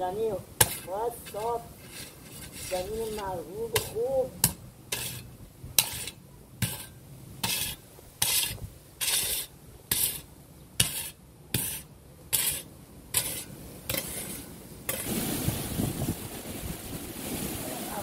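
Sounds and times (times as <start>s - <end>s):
shovel scraping dry soil: 0.6s - 15.3s.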